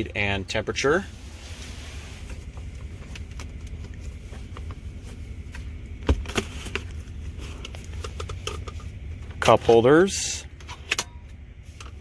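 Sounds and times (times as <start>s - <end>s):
low hum in car cabin: 0.0s - 12.0s.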